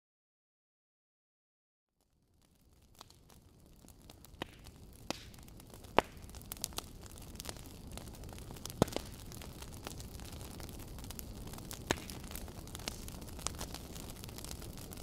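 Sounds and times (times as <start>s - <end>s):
fire crackling: 2.0s - 15.0s.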